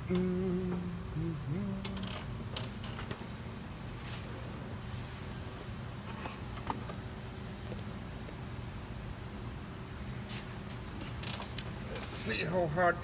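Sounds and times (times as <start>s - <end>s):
steady low background hum: 0.0s - 13.0s.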